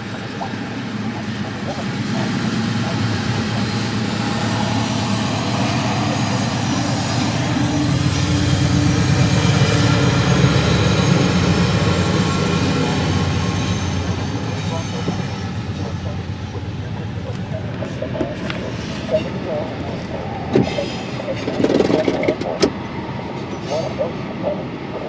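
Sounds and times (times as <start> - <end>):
diesel locomotive engine rumble: 0.0 - 25.0
moving train noise: 0.0 - 25.0.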